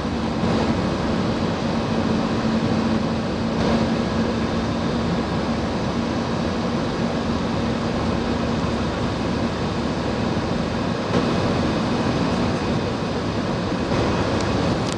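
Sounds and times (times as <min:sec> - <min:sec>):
jet engines and rushing air: 0:00.0 - 0:14.9
low cabin hum: 0:00.0 - 0:14.9.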